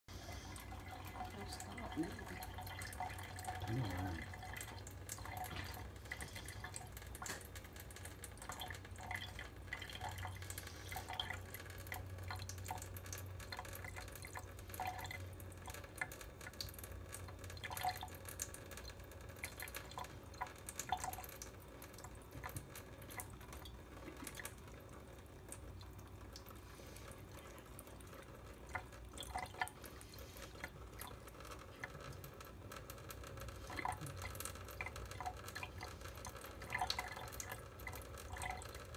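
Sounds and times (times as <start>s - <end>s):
faucet stream trickling into sink: 0.1s - 38.9s
water drips plinking: 0.3s - 26.6s, 27.2s - 38.9s.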